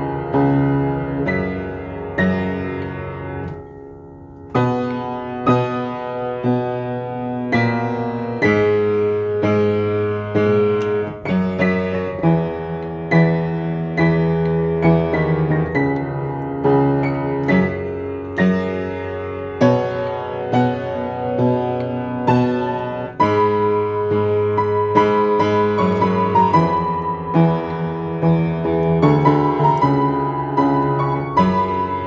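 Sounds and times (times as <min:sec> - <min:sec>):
solo piano playing slow piece: 0:00.0 - 0:32.0.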